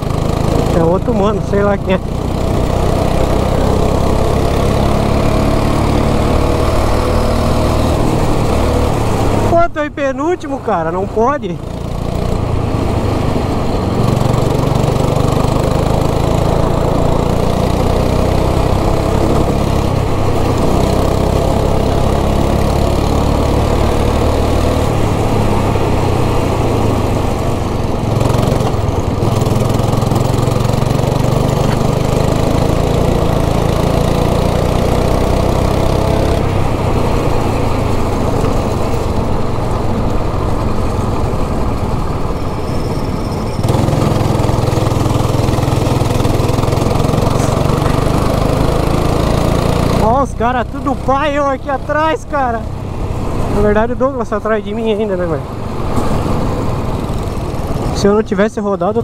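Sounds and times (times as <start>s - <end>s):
kart engine droning: 0.0s - 59.0s.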